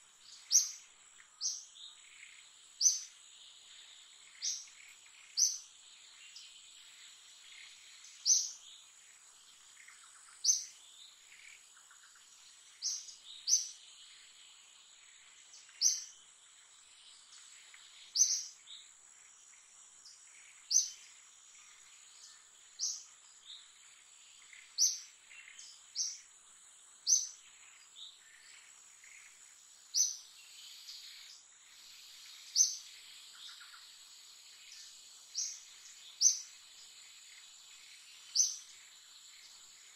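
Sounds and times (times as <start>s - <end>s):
faint chirping: 0.0s - 39.9s
insect drone: 0.0s - 39.9s.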